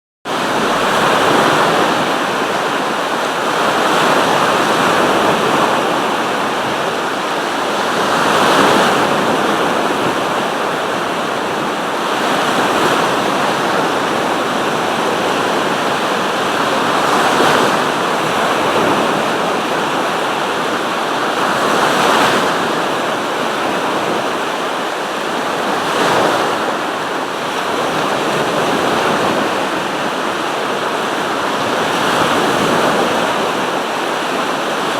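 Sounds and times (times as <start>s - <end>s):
sea waves breaking: 0.3s - 34.9s.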